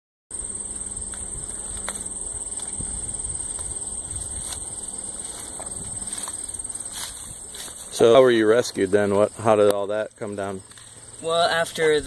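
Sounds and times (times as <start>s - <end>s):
insects trilling: 0.3s - 12.0s.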